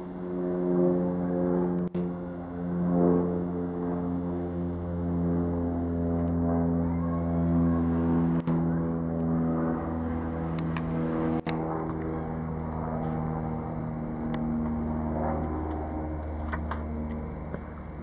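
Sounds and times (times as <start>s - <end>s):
propeller aircraft droning overhead: 0.0s - 18.0s.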